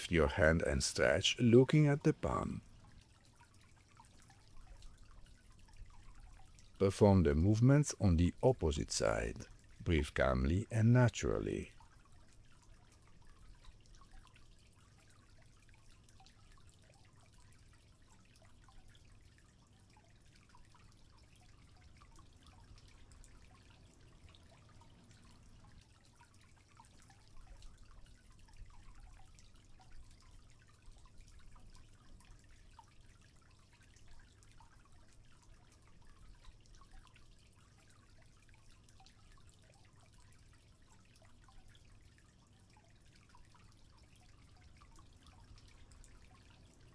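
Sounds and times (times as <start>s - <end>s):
water trickling and dripping: 0.5s - 46.9s.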